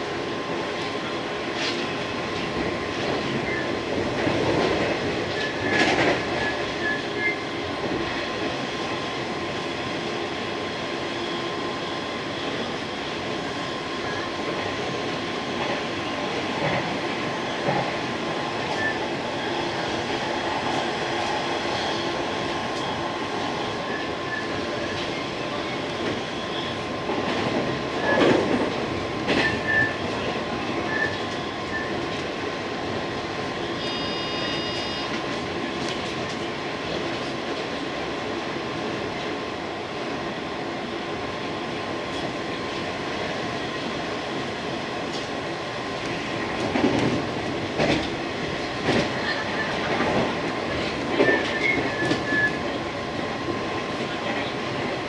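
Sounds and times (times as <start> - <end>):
train rumble and wheel clatter: 0.0 - 55.0.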